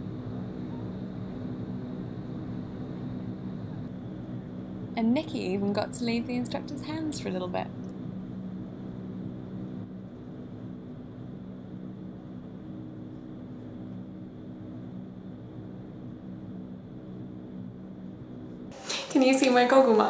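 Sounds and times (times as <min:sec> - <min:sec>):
low fan hum: 0:00.0 - 0:20.0.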